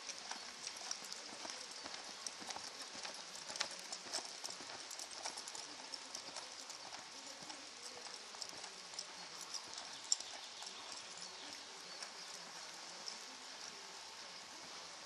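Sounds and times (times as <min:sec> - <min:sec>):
hoofbeats on sand: 0:00.0 - 0:14.9
steady hiss: 0:00.0 - 0:15.0.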